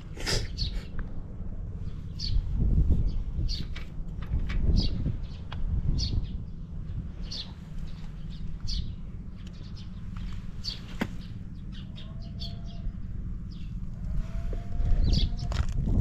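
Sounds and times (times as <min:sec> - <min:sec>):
small birds chirping: 0:00.0 - 0:15.8
small engine idling: 0:00.7 - 0:15.8.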